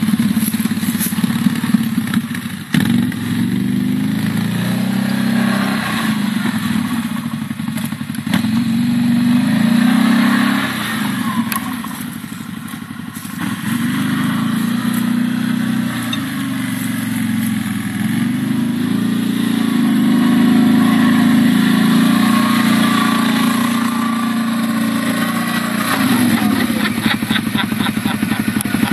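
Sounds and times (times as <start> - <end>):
quad bike engine: 0.0 - 28.9.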